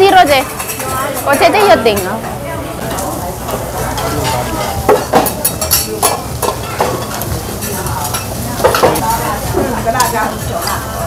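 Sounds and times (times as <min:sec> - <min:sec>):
food sizzling on a hotplate: 0:00.1 - 0:11.0.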